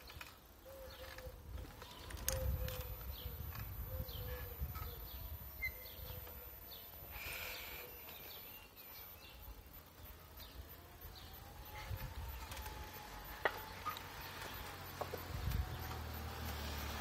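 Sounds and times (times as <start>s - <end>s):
mobility scooter rumbling: 0.0s - 17.0s
small birds chirping: 0.0s - 17.0s.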